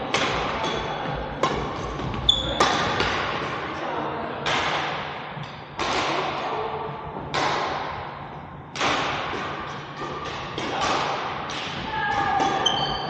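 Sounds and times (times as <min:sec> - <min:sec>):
racket hitting shuttlecock: 0:00.0 - 0:03.6, 0:04.4 - 0:06.4, 0:07.2 - 0:08.0, 0:08.7 - 0:13.0.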